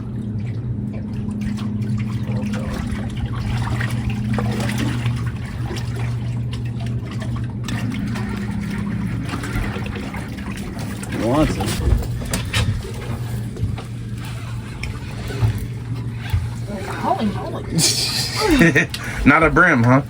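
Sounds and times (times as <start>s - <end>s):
steady low hum: 0.0s - 20.0s
water trickling and splashing: 0.0s - 20.0s.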